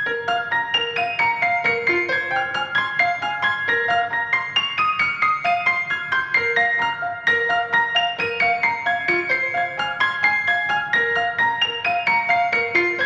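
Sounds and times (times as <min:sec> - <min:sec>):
piano music with quick notes: 0:00.0 - 0:13.0.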